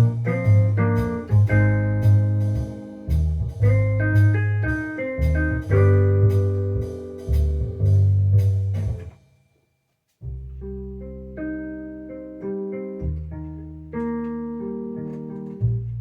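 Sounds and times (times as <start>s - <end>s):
held piano-style chords: 0.0s - 9.1s, 10.7s - 16.0s.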